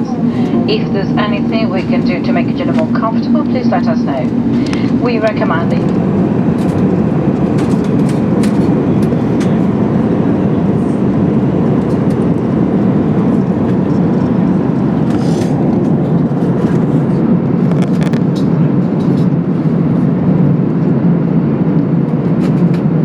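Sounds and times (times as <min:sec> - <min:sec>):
aircraft cabin rumble: 0:00.0 - 0:23.0.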